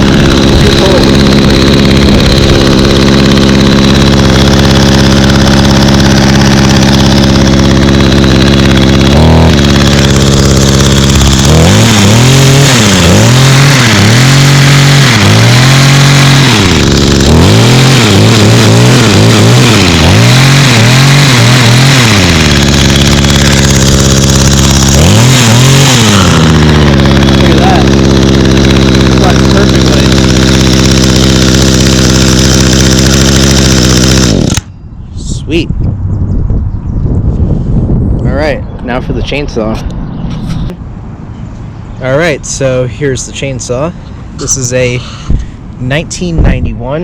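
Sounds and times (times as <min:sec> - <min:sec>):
hedge trimmer engine revving: 0:00.0 - 0:34.8, 0:42.0 - 0:47.0
hedge trimmer engine idling: 0:00.0 - 0:35.0, 0:41.6 - 0:47.0.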